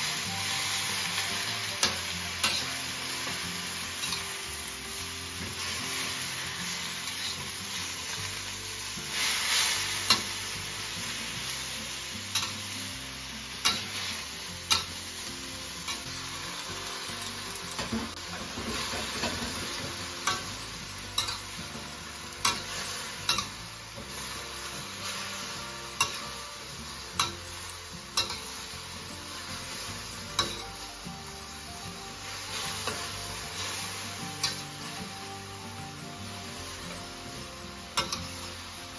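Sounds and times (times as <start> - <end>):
food sizzling in a wok: 0.0 - 38.9
metal spatula scraping a pan: 0.0 - 38.9.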